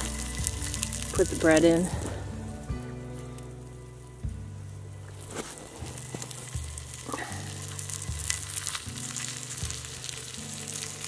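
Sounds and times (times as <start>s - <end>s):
ham sizzling in a pan: 0.0s - 11.0s.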